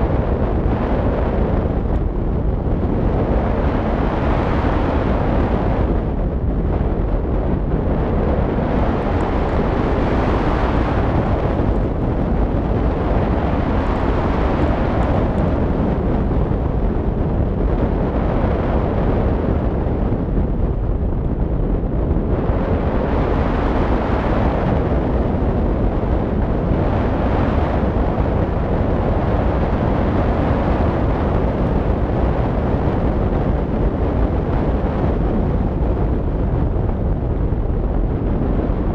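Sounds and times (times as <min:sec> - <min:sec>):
wind roaring over microphone: 0:00.0 - 0:38.9.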